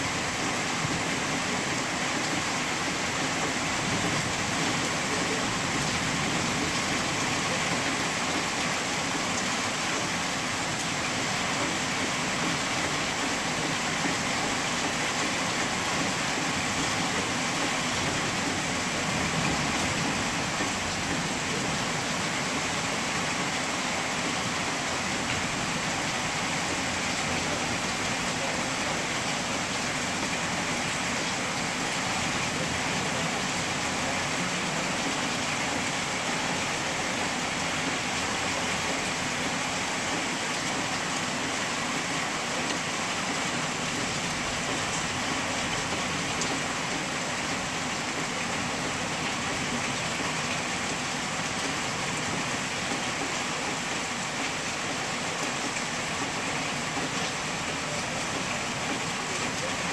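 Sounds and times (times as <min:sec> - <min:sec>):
heavy rain pouring on trees: 0:00.0 - 0:59.9.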